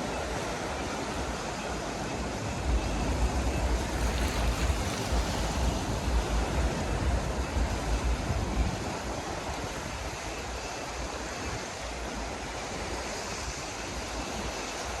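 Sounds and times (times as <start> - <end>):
waves washing onto shore: 0.0 - 15.0
wind buffeting microphone: 0.0 - 15.0.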